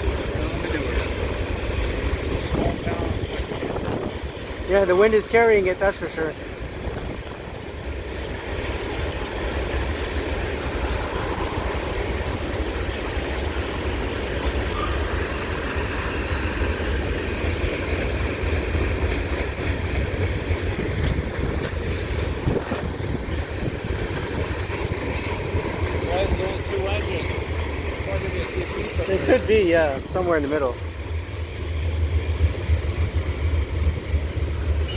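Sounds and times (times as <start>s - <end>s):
wind buffeting microphone: 0.0s - 4.8s, 5.9s - 29.4s
freight train cars rolling: 0.0s - 34.9s.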